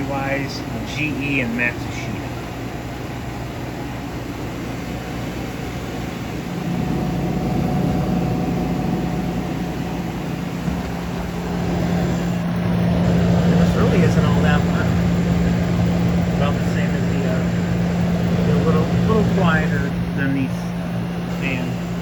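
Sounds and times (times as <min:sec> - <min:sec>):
air conditioner fan and air noise: 0:00.0 - 0:22.0
low hum: 0:00.0 - 0:22.0.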